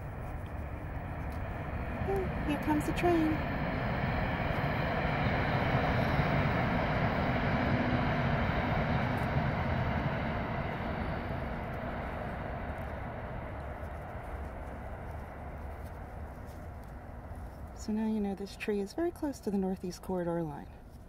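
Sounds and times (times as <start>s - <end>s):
train rumbling past: 0.0s - 19.8s.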